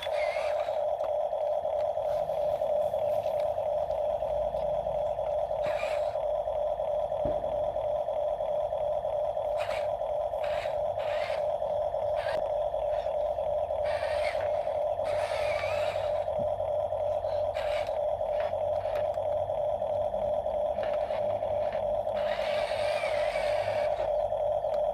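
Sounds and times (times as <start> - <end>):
toy electric motor whining: 0.0 - 24.9.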